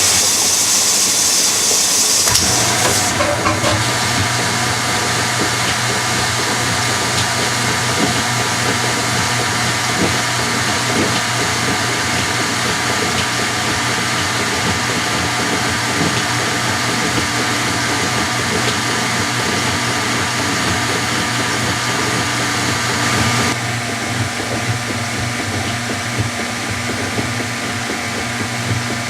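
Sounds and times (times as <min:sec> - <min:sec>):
washing machine rushing: 0:00.0 - 0:29.0
low motor hum: 0:02.2 - 0:29.0.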